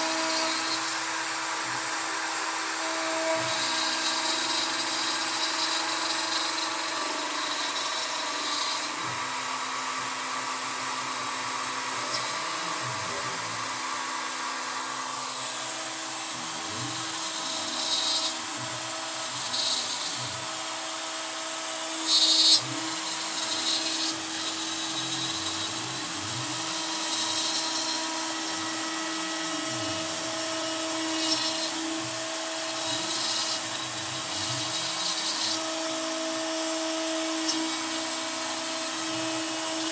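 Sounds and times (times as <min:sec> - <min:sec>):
end mill cutting wood: 0:00.0 - 0:39.9
router spindle running: 0:00.0 - 0:39.9.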